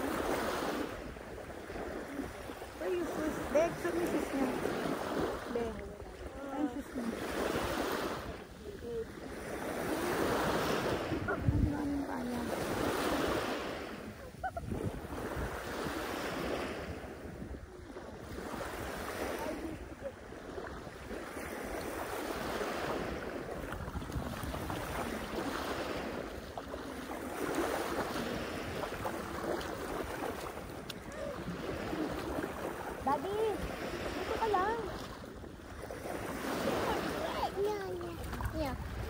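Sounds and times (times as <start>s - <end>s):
sea waves washing in: 0.0s - 39.0s
wind buffeting microphone: 0.0s - 39.0s.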